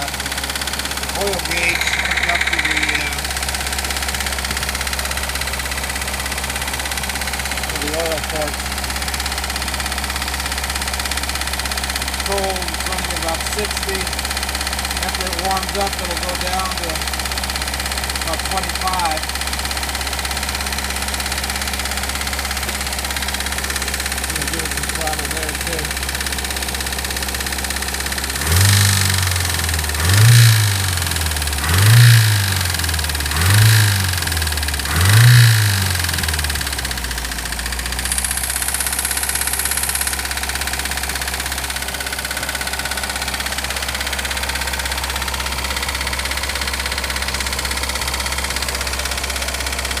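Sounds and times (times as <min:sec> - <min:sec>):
engine idling and revving: 0:00.0 - 0:50.0.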